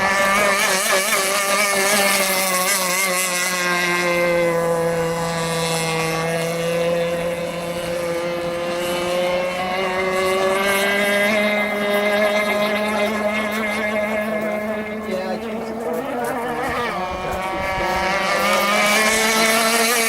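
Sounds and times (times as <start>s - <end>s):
model boat engine buzzing: 0.0s - 20.0s.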